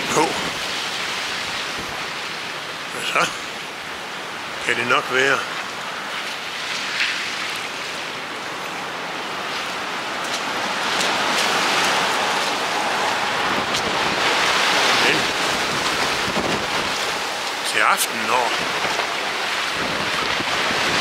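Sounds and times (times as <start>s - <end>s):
waves splashing against a quay: 0.0s - 21.0s.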